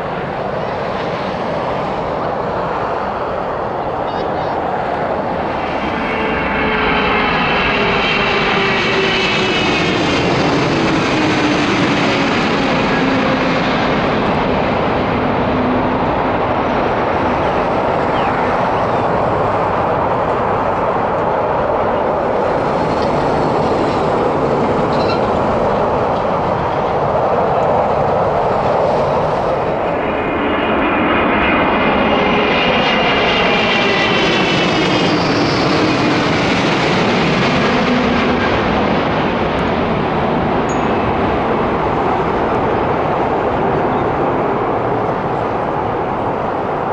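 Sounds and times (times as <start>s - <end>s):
jet airliner engines roaring overhead: 0.0s - 46.9s
second airliner engine whine: 0.0s - 46.9s.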